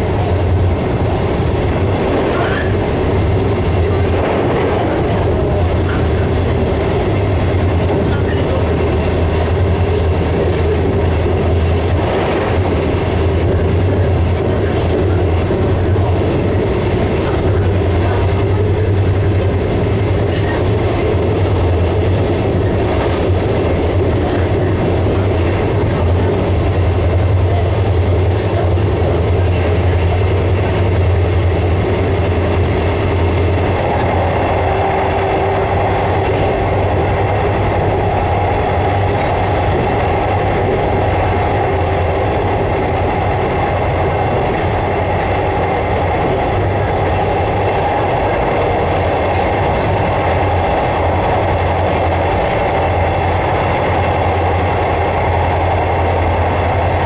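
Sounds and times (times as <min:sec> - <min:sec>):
train hum and rail rumble: 0:00.0 - 0:57.0.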